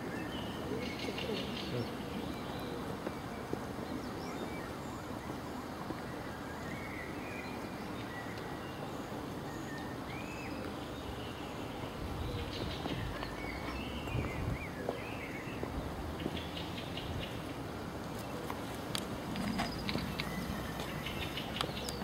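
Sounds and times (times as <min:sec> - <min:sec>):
birds chirping: 0:00.0 - 0:22.0
steady background hiss: 0:00.0 - 0:22.0.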